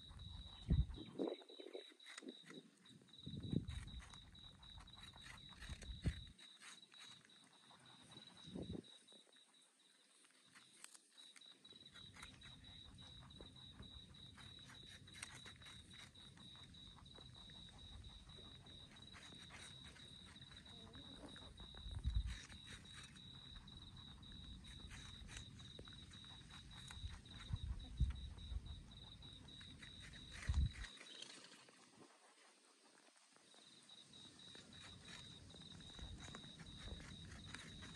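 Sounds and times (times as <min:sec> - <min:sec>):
rabbits chewing apple: 0:00.0 - 0:37.9.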